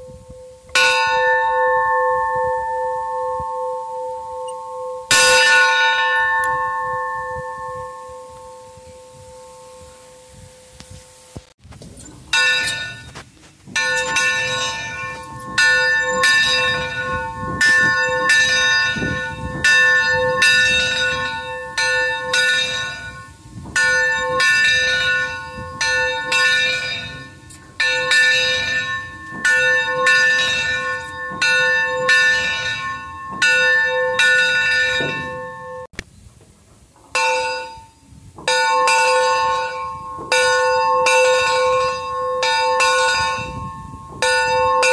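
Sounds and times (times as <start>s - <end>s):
steam locomotive bell ringing: 0.0s - 10.9s, 12.4s - 13.2s, 13.8s - 35.9s, 37.2s - 44.9s.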